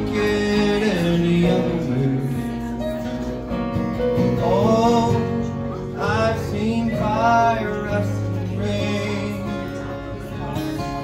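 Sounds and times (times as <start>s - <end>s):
man singing: 0.0s - 3.2s, 4.0s - 11.0s
acoustic guitar: 0.0s - 11.0s.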